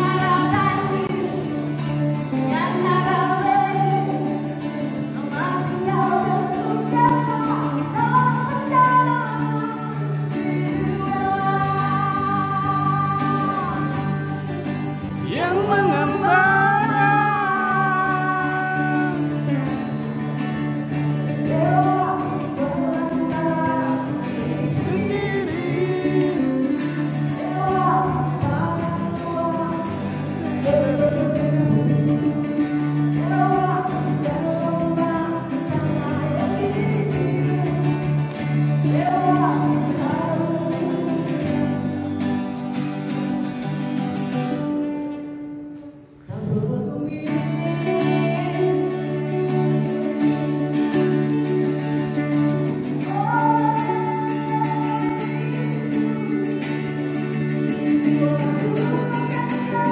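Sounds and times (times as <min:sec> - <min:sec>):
person singing: 0:00.0 - 0:59.9.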